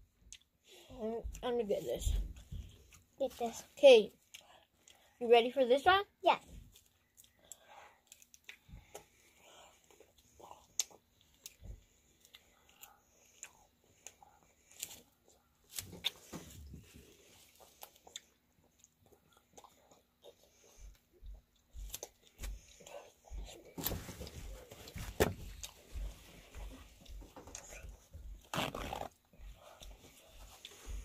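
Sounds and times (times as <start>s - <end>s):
children chewing fruit: 0.0s - 31.0s.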